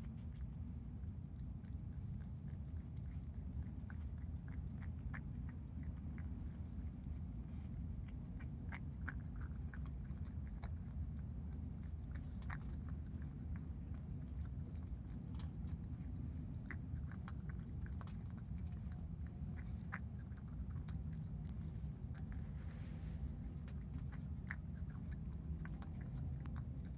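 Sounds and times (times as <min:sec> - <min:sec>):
low background rumble: 0:00.0 - 0:26.9
animal chewing food clicks: 0:01.4 - 0:26.9.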